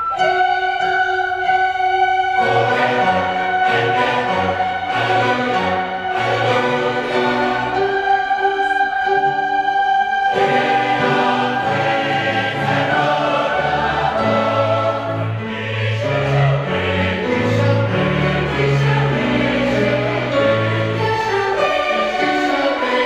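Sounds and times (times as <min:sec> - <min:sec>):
mixed choir singing: 0:00.0 - 0:23.0
orchestral accompaniment: 0:00.0 - 0:23.0.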